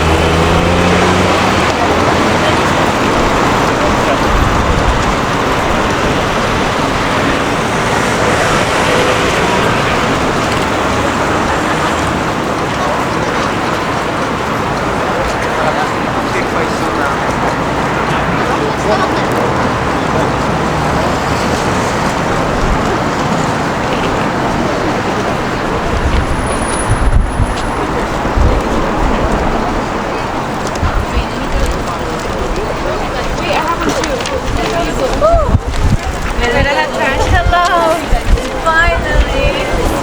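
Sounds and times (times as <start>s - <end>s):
low rumbles: 0.0s - 40.0s
road traffic: 0.0s - 40.0s
voices of passers-by: 0.0s - 40.0s.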